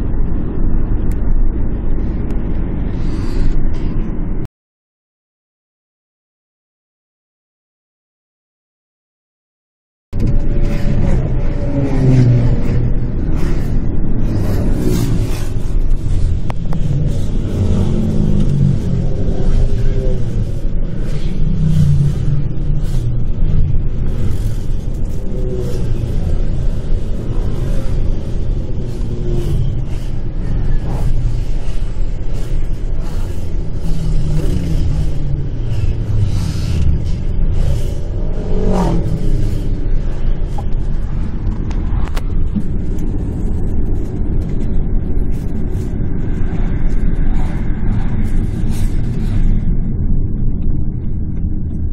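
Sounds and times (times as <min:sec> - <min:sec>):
engine and road rumble: 0:00.0 - 0:04.5, 0:10.1 - 0:51.9
motorcycles passing: 0:10.2 - 0:51.8.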